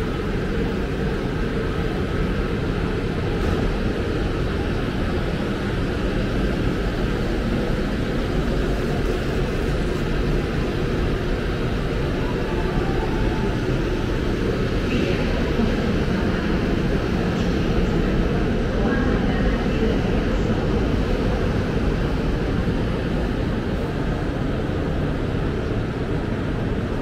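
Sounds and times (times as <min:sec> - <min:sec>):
low rumble of station platform: 0:00.0 - 0:27.0.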